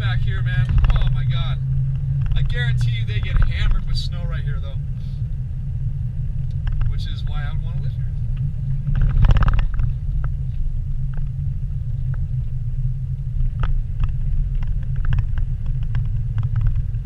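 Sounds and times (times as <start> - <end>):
rattle: 0.0 - 5.3, 6.3 - 17.0
low rumble of engine and tyres: 0.0 - 17.0.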